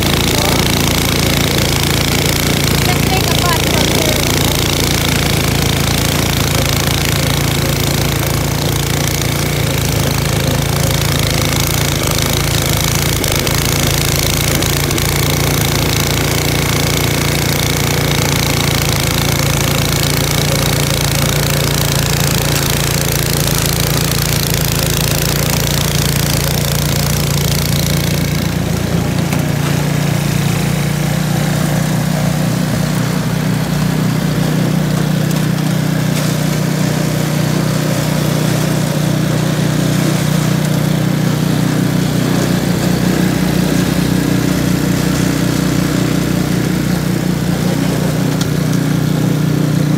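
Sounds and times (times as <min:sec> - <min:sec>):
snow blower engine running: 0:00.0 - 0:49.9.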